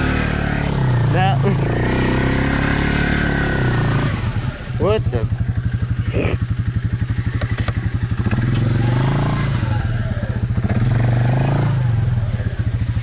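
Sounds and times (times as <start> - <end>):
off-road vehicle engine idling and revving: 0.0 - 13.0.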